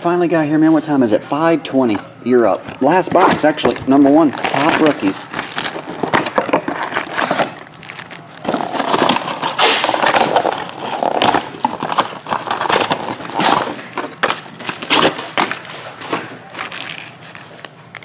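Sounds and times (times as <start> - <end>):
packaging crinkling and tearing: 2.7 - 18.0.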